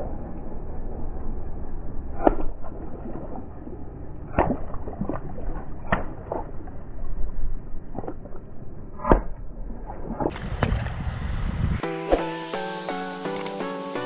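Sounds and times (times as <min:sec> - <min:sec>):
low rumble of tyre: 0:00.0 - 0:11.8.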